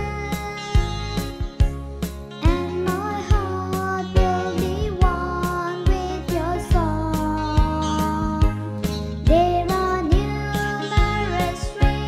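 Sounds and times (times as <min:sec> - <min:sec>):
song with steady beat: 0:00.0 - 0:12.0.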